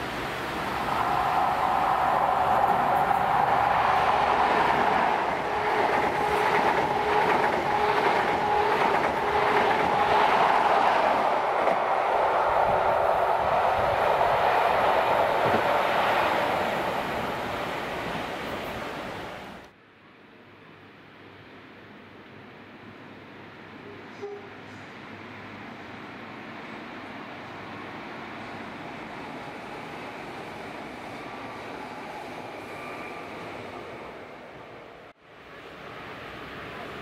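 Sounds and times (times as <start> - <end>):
passenger train passing hum: 0.0 - 19.7, 20.4 - 37.0.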